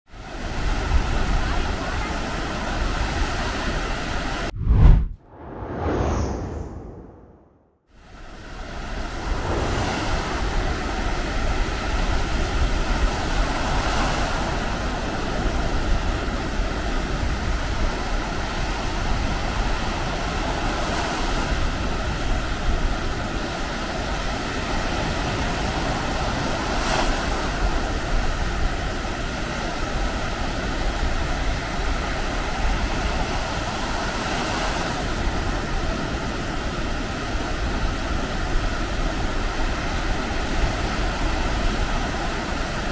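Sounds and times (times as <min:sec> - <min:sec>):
wind on microphone: 0:00.4 - 0:07.4, 0:08.1 - 0:42.9
surf washing onto beach: 0:08.2 - 0:42.9.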